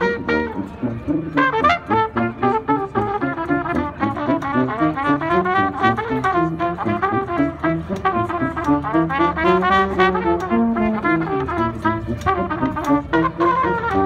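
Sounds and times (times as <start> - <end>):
trumpet playing fast melody: 0.0 - 14.0
tuba bass line: 0.0 - 14.0.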